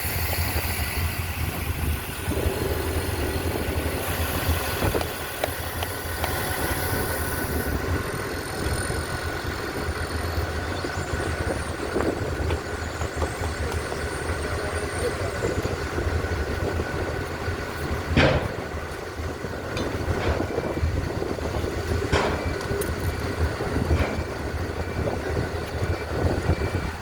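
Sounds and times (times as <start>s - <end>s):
machinery engine humming: 0.0s - 27.0s.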